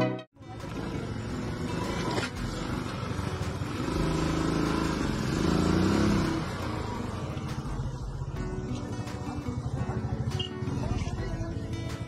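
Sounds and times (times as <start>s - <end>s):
motorcycle engine running: 0.4s - 12.0s.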